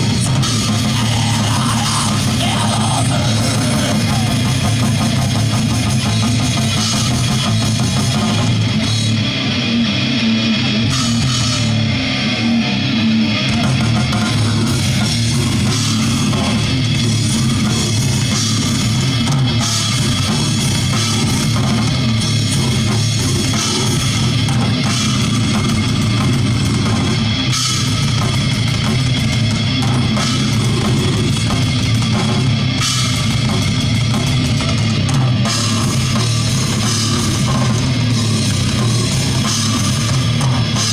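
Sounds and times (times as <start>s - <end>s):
rock band playing heavy music: 0.0s - 40.9s.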